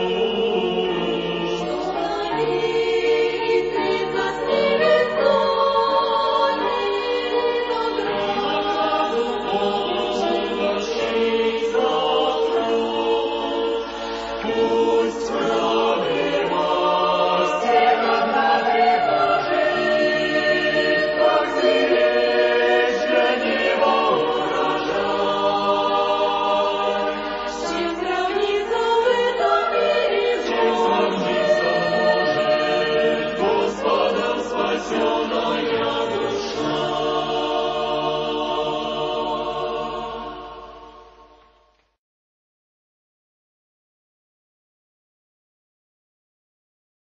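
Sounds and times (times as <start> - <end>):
choir singing a hymn: 0.0 - 41.7.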